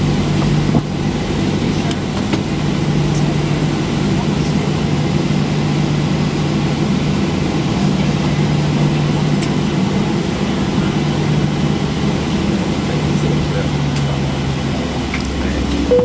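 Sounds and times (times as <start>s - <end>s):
jet engines idling in cabin: 0.0s - 16.0s.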